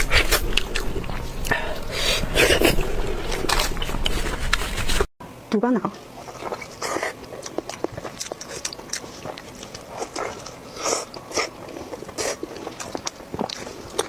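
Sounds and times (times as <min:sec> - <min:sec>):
chewing crunchy food: 0:00.0 - 0:05.0, 0:05.9 - 0:14.0.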